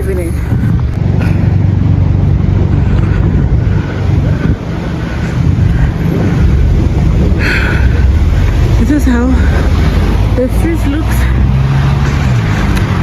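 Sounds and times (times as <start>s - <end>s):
street traffic: 0.0s - 13.0s
wind buffeting microphone: 0.0s - 13.0s.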